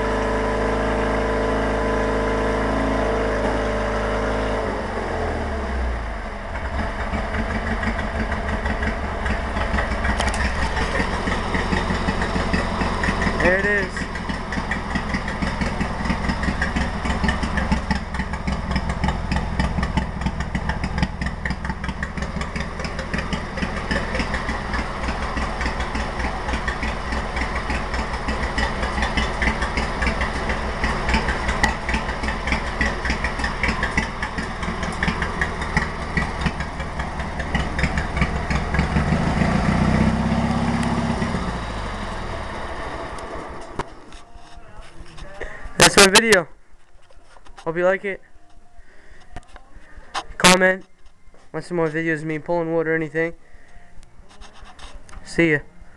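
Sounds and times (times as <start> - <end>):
lawn tractor engine idling: 0.0 - 55.9.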